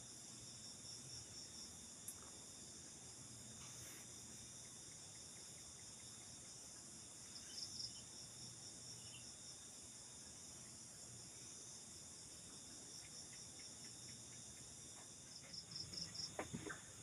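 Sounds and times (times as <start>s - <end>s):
crickets chirping at night: 0.0s - 17.0s.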